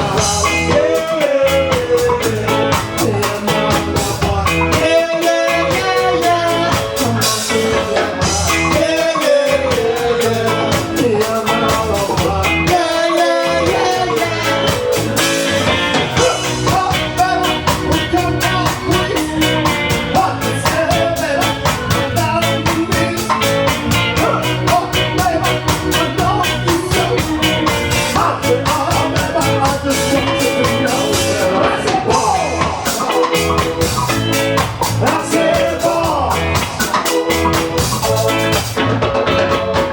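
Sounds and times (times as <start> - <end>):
ska band playing with singing: 0.0 - 39.9.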